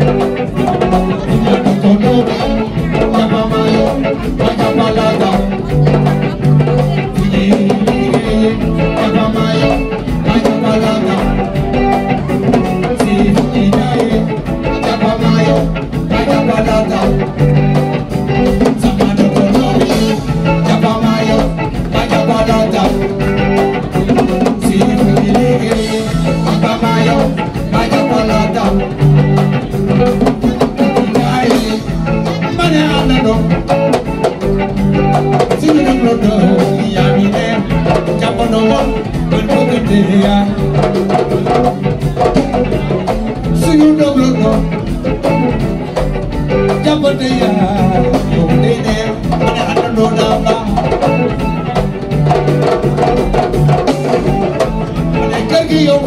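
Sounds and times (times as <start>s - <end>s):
drum kit: 0.0s - 56.0s
electric guitars: 0.0s - 56.0s
hand drums: 0.0s - 56.0s.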